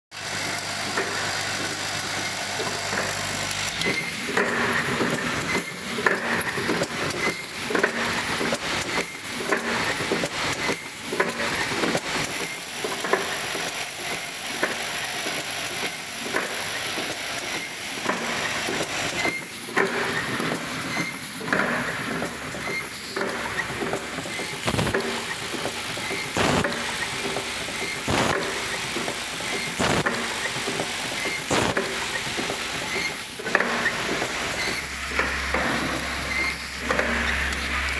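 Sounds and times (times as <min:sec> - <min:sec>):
pneumatic machine clatter: 0:00.2 - 0:37.9
machine clicks and knocks: 0:00.5 - 0:37.9.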